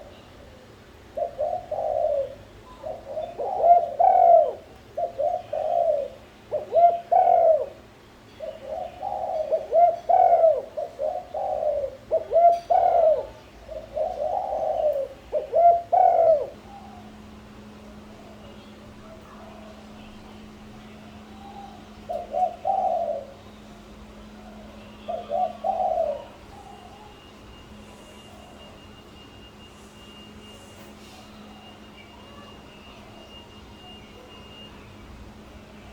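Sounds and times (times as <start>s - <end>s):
doves cooing: 0.0s - 28.8s.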